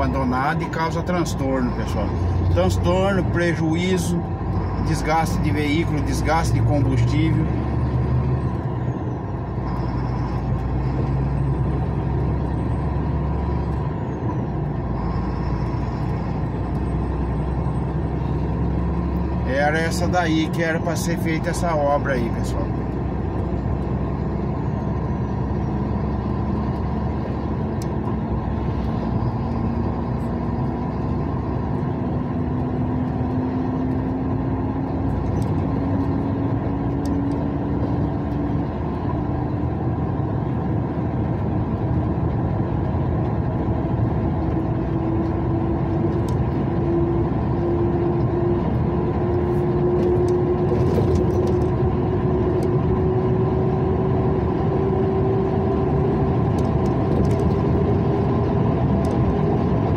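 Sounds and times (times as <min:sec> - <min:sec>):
tyre and road noise: 0:00.0 - 0:59.9
car engine speeding up: 0:01.7 - 0:59.9.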